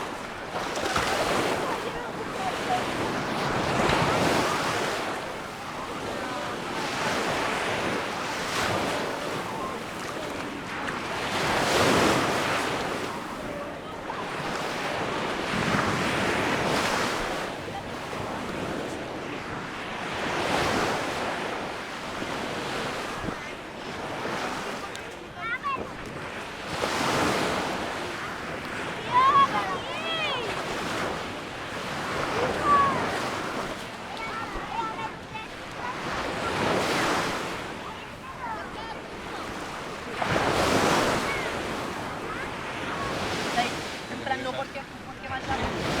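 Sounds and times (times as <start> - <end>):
sea waves breaking on beach: 0.0 - 46.0.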